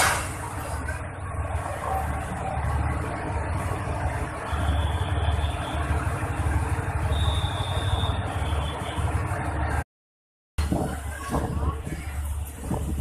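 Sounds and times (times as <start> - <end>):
diesel train rumbling: 0.0 - 9.8, 10.6 - 13.0.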